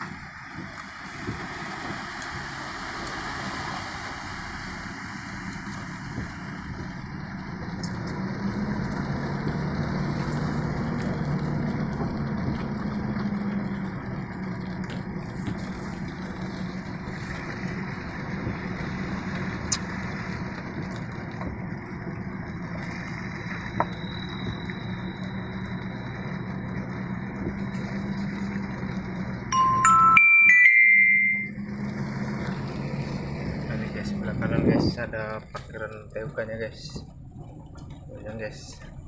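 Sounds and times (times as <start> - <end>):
vehicle engine and road noise: 0.0 - 39.0.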